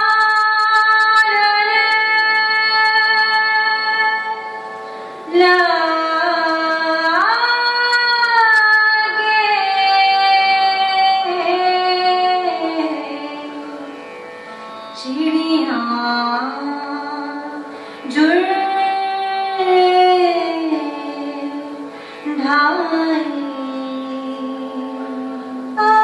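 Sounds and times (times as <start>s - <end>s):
woman singing: 0.0s - 4.6s, 5.3s - 14.0s, 15.0s - 26.0s.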